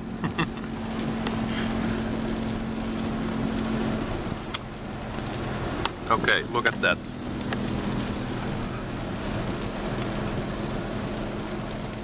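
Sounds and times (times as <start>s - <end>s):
car engine hum: 0.0s - 12.0s
tyre noise on wet road: 0.0s - 12.0s.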